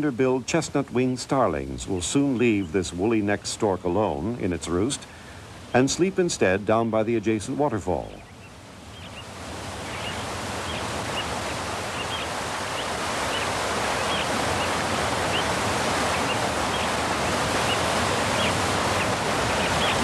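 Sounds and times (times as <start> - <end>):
waterfall rushing: 0.0 - 8.2, 9.3 - 20.0.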